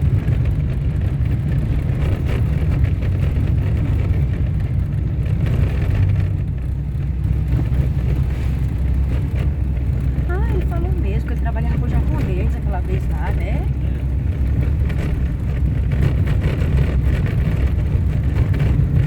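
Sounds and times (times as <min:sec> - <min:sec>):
car driving on dirt road: 0:00.0 - 0:19.0.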